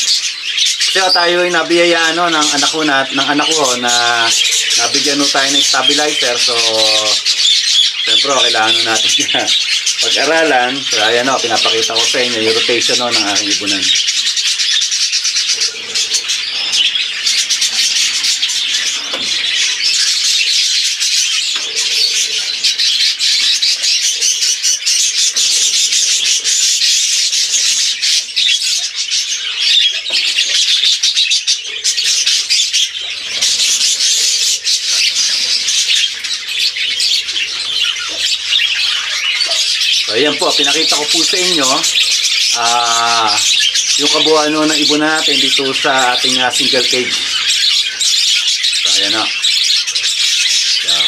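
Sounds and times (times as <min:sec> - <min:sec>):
budgerigars chattering: 0:00.0 - 0:51.0.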